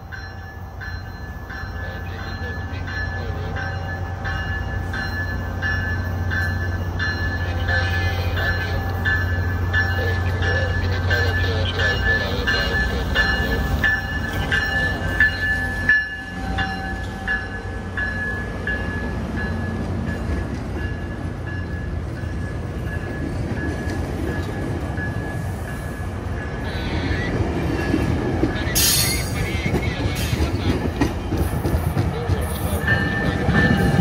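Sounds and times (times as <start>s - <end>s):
bell ringing: 0.0s - 27.2s, 32.6s - 34.0s
train rolling past rumbling: 0.0s - 34.0s.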